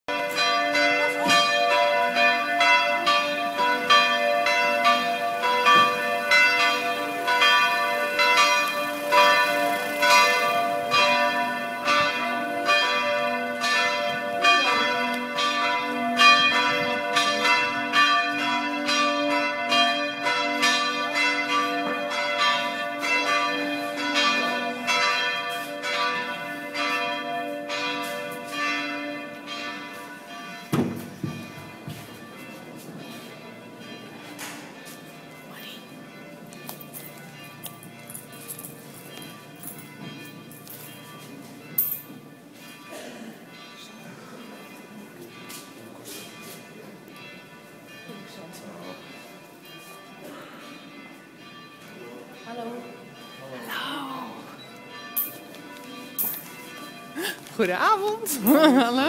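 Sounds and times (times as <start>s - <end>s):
church bells ringing: 0.1s - 59.0s.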